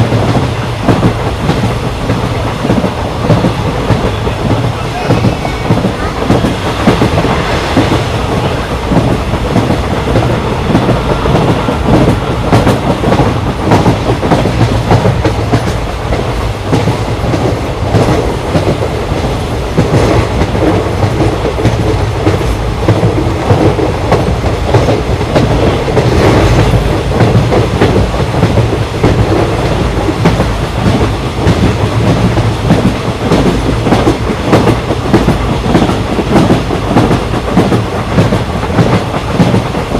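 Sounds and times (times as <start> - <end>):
train coach rumble: 0.0 - 39.9.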